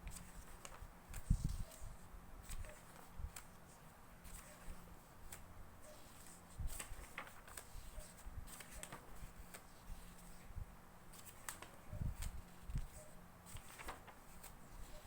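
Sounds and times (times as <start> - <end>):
magazine pages turning: 0.1 - 1.8, 2.4 - 3.6, 4.2 - 10.5, 11.1 - 15.0.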